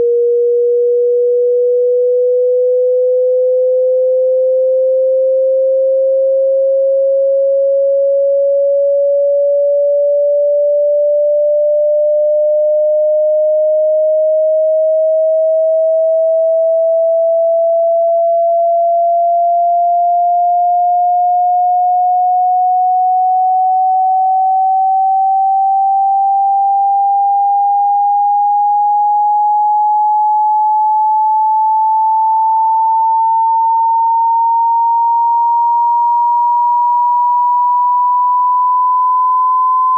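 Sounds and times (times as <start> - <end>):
sine tone sweeping upward: 0.0 - 39.9.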